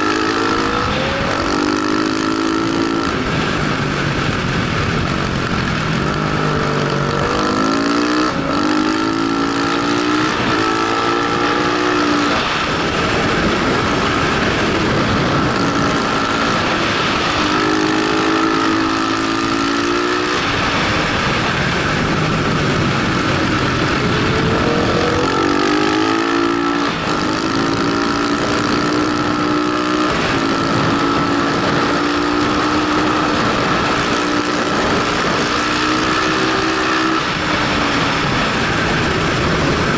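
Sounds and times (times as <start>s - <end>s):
heavy wind rush: 0.0s - 39.9s
motorcycle engine revving: 0.0s - 39.9s
steady high whine: 0.0s - 39.9s.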